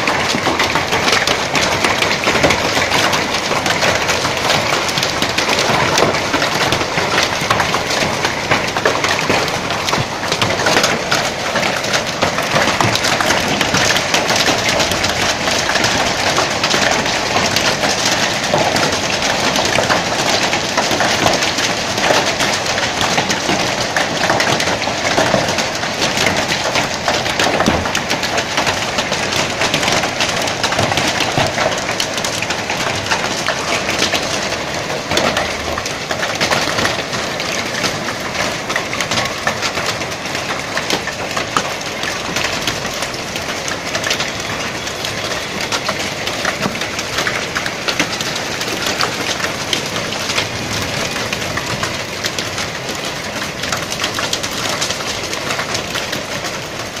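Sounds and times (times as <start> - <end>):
heavy rain on metal roofs: 0.0 - 57.0.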